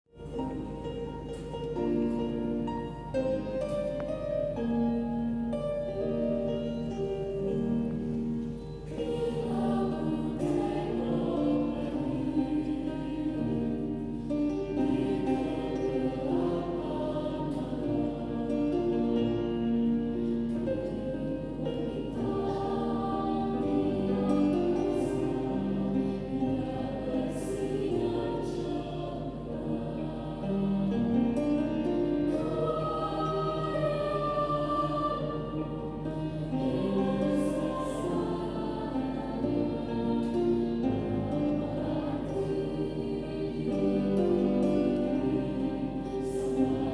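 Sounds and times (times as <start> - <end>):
choir singing in parts: 0.2 - 46.9.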